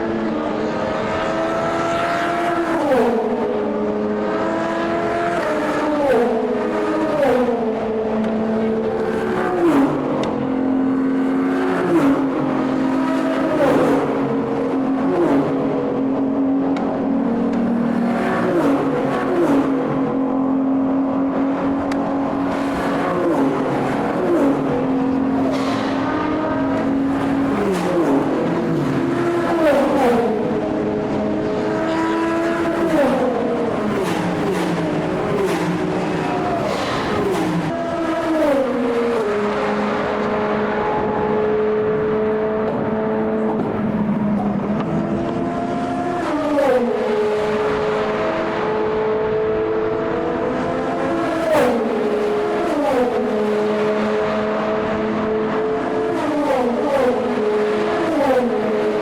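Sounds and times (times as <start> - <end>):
racing cars passing at speed: 0.0 - 59.0.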